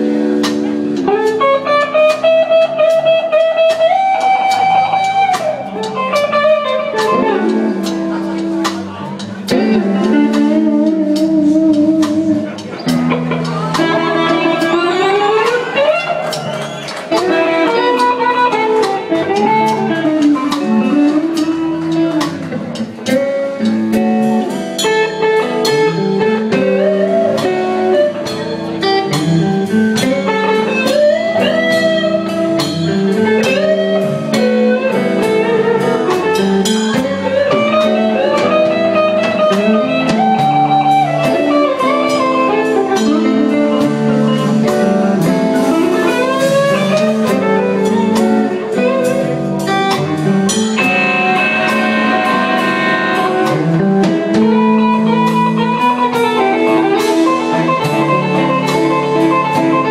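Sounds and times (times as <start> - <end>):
blues band playing: 0.0 - 59.9
guitar lead with bending notes: 0.0 - 59.9.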